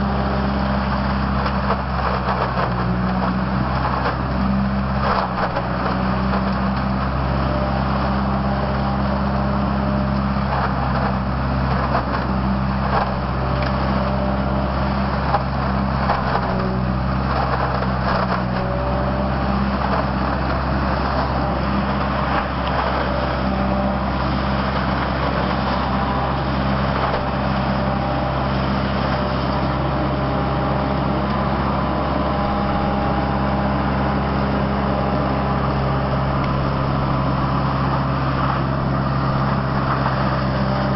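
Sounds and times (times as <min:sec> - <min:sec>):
engine and fan drone: 0:00.0 - 0:40.9.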